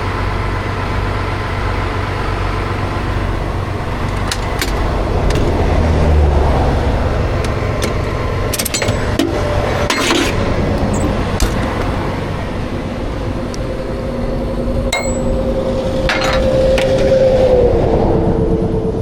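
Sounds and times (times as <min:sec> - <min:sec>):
passing vehicle whine: 0:00.0 - 0:19.0
rumble of highway traffic: 0:00.0 - 0:19.0.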